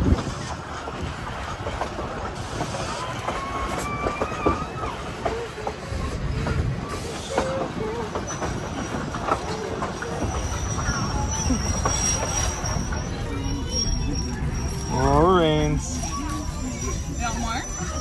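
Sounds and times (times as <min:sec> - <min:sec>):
train rumble: 0:00.0 - 0:18.0
train wheels squealing: 0:02.4 - 0:18.0.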